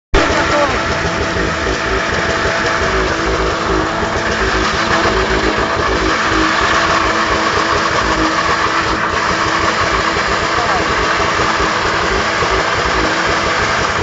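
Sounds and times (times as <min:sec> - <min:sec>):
car engine at high revs: 0:00.1 - 0:14.0
tyres spinning on asphalt: 0:00.1 - 0:14.0.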